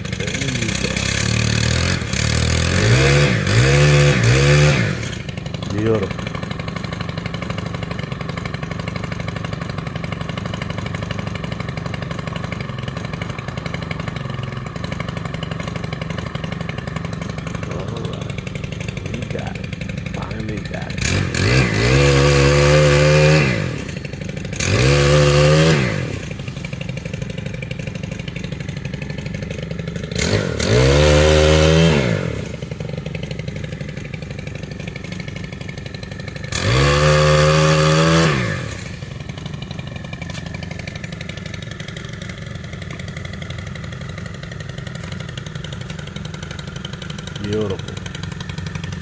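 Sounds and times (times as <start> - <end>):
small gas engine idling and revving: 0.0 - 49.0.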